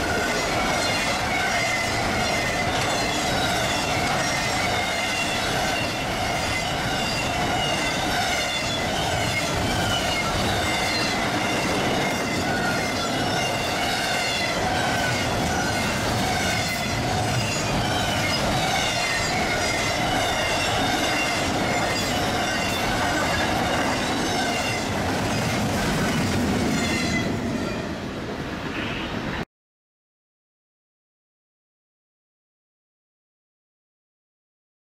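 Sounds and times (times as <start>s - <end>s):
wheels squealing: 0.0s - 28.0s
train wheels rumbling on rail: 0.0s - 29.4s.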